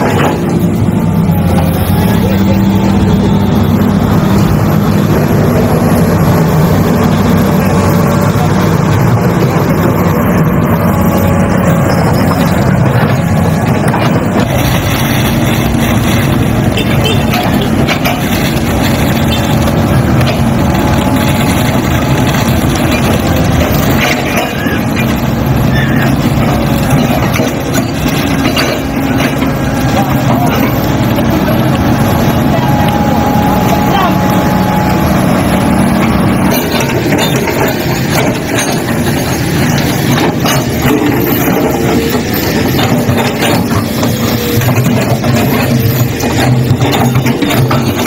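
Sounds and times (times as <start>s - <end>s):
concrete mixer truck engine: 0.0s - 48.0s
excavator diesel engine: 0.0s - 48.0s.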